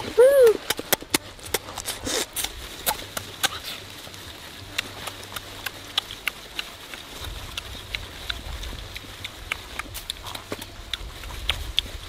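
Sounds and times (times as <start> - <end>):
person chewing with mouth smacks: 0.5 - 3.8, 4.7 - 12.0.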